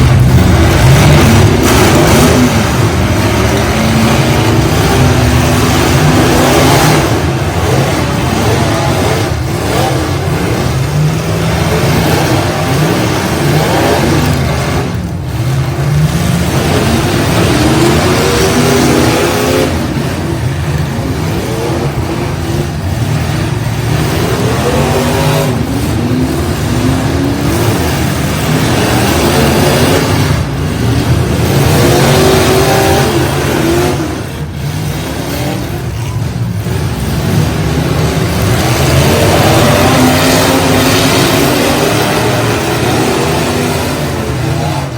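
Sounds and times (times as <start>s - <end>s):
truck engines revving: 0.0s - 44.9s.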